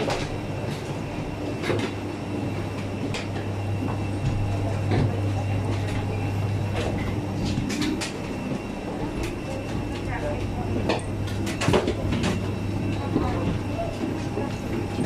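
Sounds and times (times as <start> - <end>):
footsteps knocks and clicks: 0.0 - 15.0
low mechanical hum: 0.0 - 15.0.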